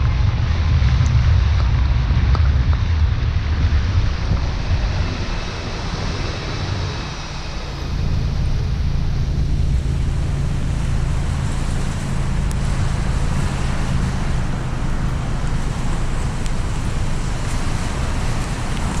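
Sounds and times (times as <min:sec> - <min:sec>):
faint engine hum: 0:00.0 - 0:19.0
rain: 0:00.0 - 0:19.0
tyre noise on wet road: 0:00.0 - 0:19.0.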